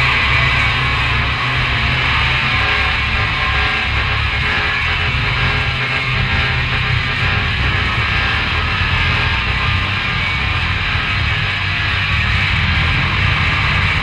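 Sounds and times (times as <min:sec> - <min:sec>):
choppy low rumble: 0:00.0 - 0:14.0
heavily distorted music: 0:00.0 - 0:14.0.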